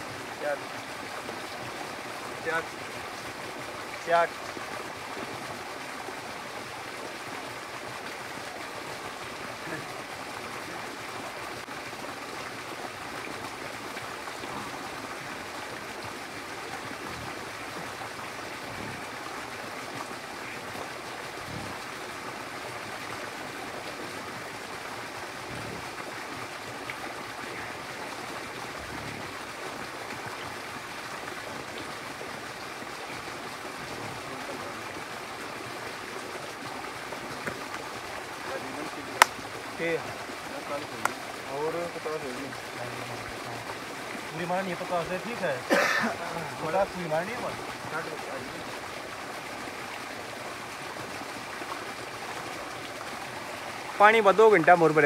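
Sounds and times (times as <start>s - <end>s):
water rushing from a pipe: 0.0s - 55.0s.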